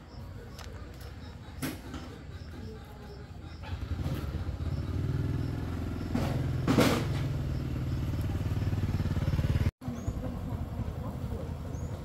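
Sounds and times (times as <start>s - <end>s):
small engine running: 1.6s - 11.8s.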